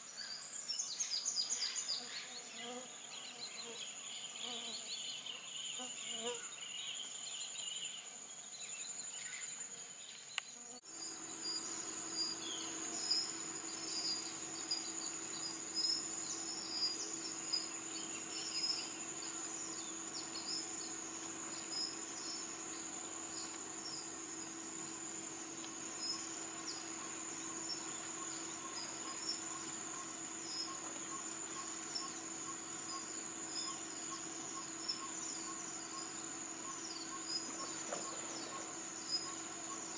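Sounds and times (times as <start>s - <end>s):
insects droning and chirping: 0.0s - 39.9s.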